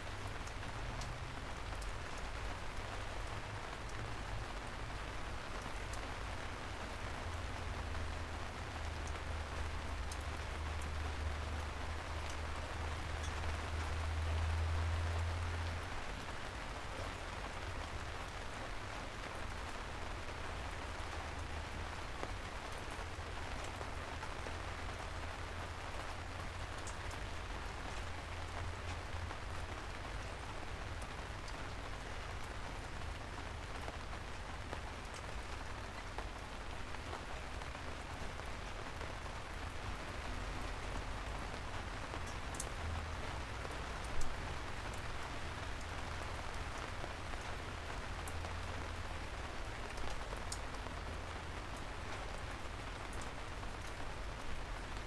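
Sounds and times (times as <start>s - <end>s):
rain falling: 0.0s - 55.0s
raindrops ticking: 0.0s - 55.0s.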